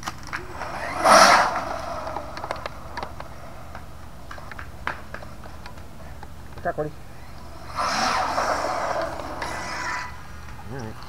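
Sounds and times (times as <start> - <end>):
rc truck motor and tyre noise: 0.0 - 11.0.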